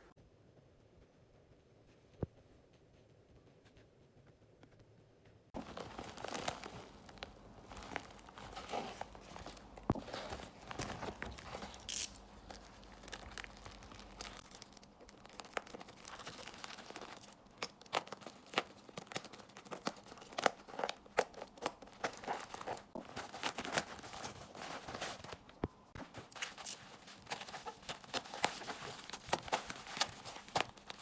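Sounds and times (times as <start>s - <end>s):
card packaging tearing and crinkling: 5.6s - 31.0s.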